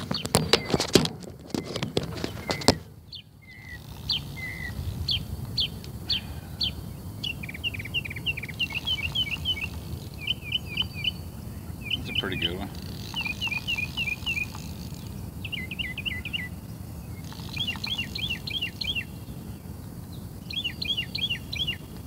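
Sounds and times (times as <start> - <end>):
songbird chirping: 0.0 - 22.0.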